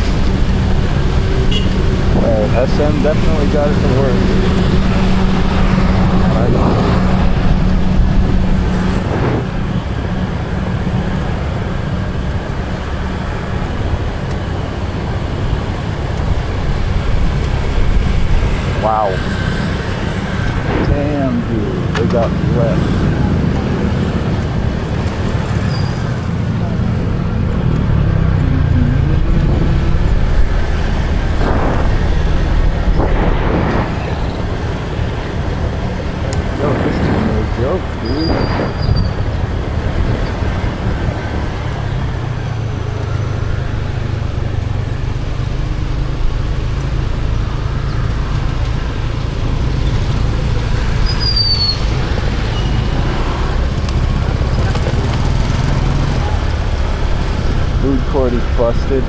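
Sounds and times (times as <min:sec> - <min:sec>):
low engine hum: 0:00.0 - 0:59.0
rushes of noise: 0:00.0 - 0:59.0
vehicle engine and road noise: 0:00.0 - 0:59.0.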